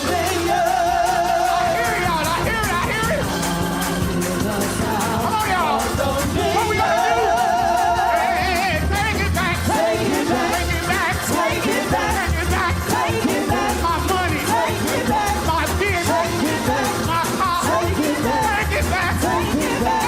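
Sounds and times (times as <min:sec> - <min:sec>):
band with bass and drums: 0:00.0 - 0:20.0
person singing with vibrato: 0:00.0 - 0:20.0.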